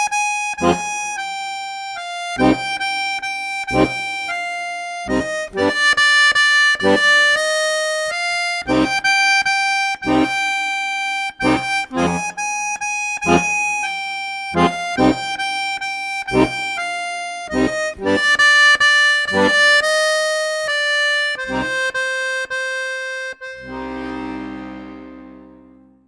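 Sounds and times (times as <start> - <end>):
accordion playing: 0.0 - 26.0.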